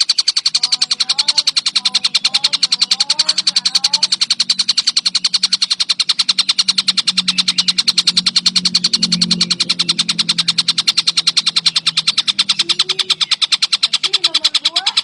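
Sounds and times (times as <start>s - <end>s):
kingfisher rattling call: 0.0s - 15.0s
low hum: 0.0s - 15.0s.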